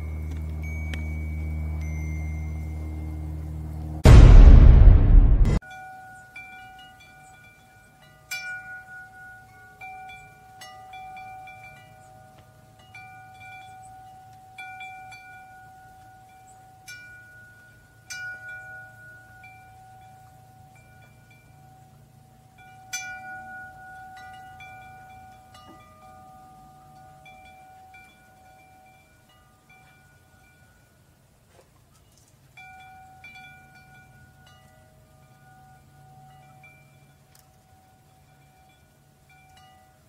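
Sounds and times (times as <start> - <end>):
metal tube wind chime ringing: 0.0 - 3.2, 5.7 - 31.0, 32.6 - 40.0.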